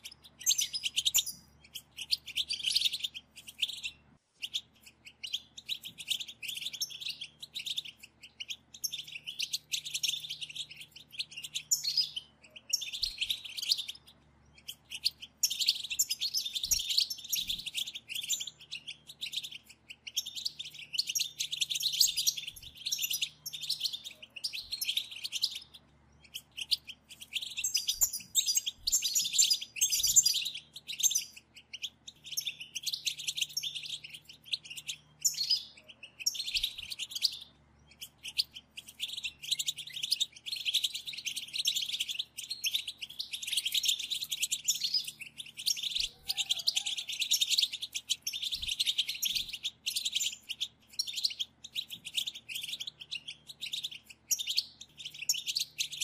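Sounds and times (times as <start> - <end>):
goldfinches twittering: 0.0 - 56.0.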